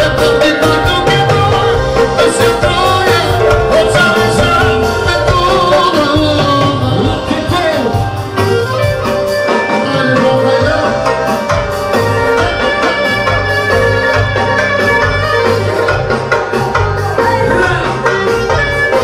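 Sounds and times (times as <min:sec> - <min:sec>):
folk dance band music: 0:00.0 - 0:19.0
person singing: 0:00.0 - 0:19.0
steady drum beat: 0:00.0 - 0:19.0.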